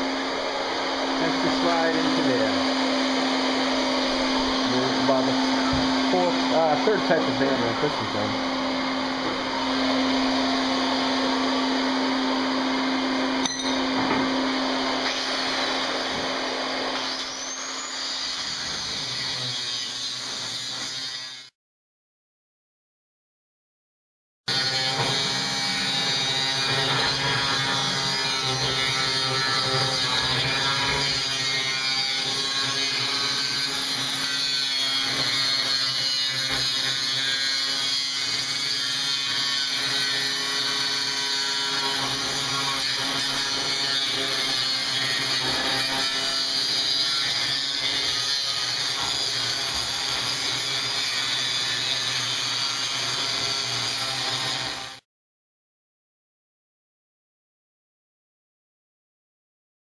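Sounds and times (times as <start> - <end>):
angle grinder cutting sheet metal: 0.0 - 21.5, 24.5 - 55.0.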